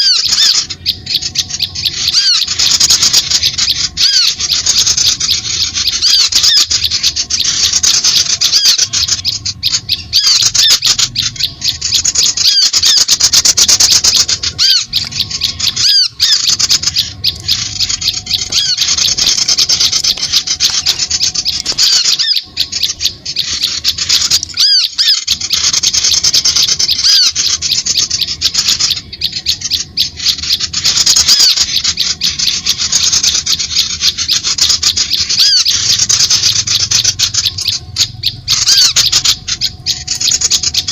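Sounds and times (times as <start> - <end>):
high-pitched chattering bird calls: 0.0 - 40.9.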